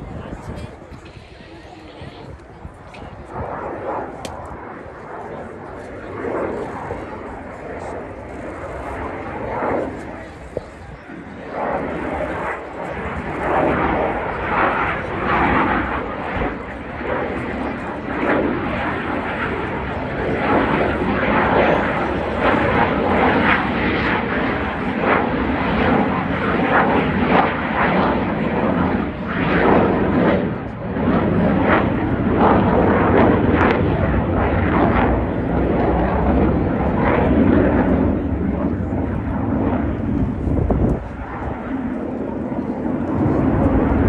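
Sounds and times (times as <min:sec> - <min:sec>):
fighter jet flying overhead: 0:00.0 - 0:44.0.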